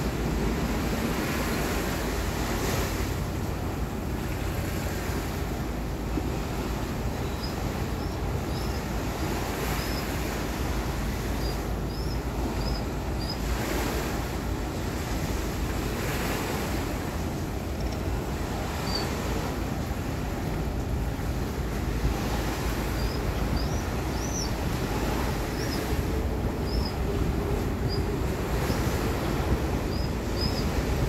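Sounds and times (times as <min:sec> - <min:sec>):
sea water washing against shore: 0:00.0 - 0:31.0
wind buffeting microphone: 0:00.0 - 0:31.0.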